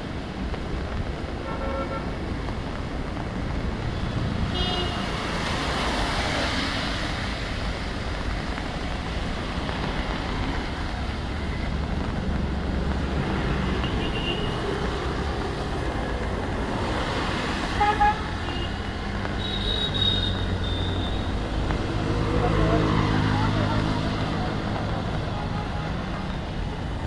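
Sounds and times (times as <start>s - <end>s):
engines rumbling: 0.0s - 27.0s
tyres hissing on wet road: 0.0s - 27.0s.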